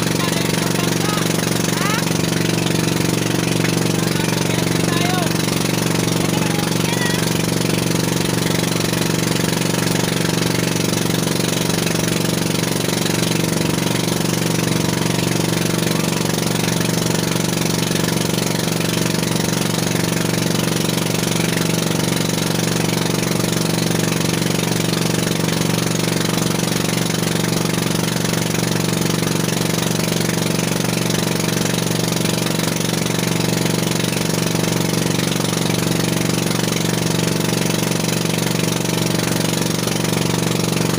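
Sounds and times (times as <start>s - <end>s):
boat engine drone: 0.0s - 40.9s
water rushing past hull: 0.0s - 40.9s.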